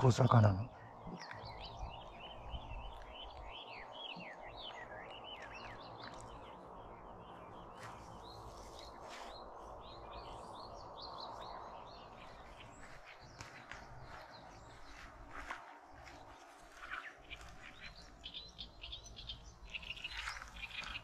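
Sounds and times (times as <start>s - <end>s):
low outdoor background noise: 0.0s - 21.0s
songbird chirping: 0.0s - 21.0s.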